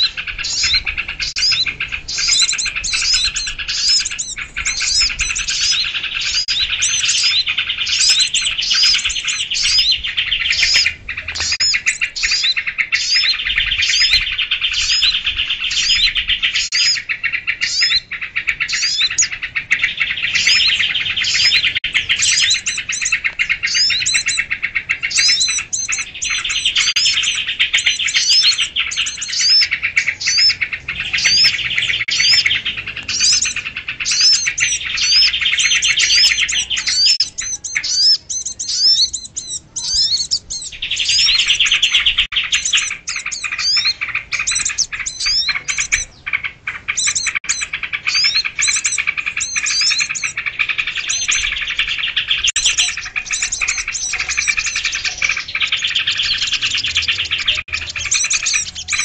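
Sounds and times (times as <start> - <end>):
songbirds chattering and chirping: 0.0 - 59.0.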